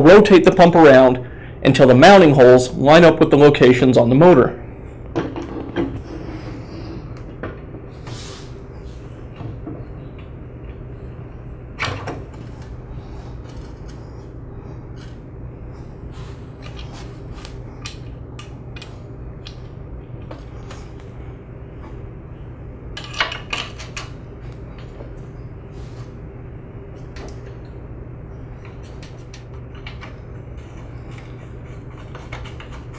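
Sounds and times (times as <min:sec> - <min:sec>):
low hum: 0:00.0 - 0:32.9.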